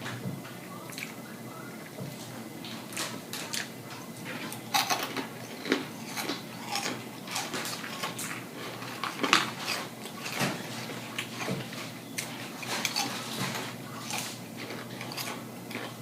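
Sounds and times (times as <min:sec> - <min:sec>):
wet chewing and mouth smacking: 0:02.6 - 0:16.0.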